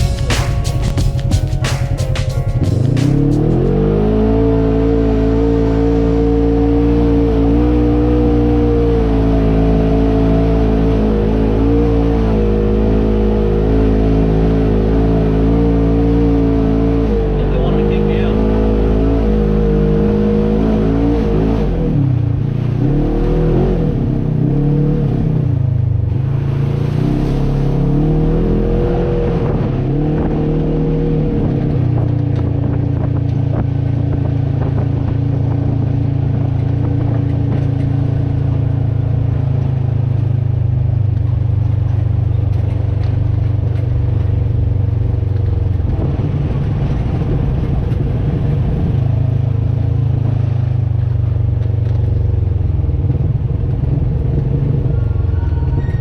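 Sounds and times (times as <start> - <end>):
off-road vehicle engine: 2.7 - 56.0.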